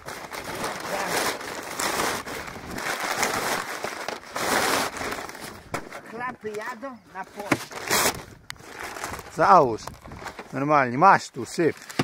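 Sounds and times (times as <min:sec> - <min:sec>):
paper sack rustling: 0:00.0 - 0:12.0.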